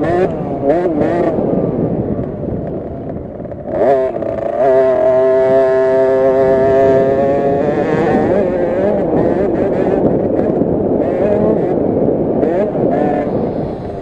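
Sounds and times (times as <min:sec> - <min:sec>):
minibike engine revving: 0:00.0 - 0:14.0.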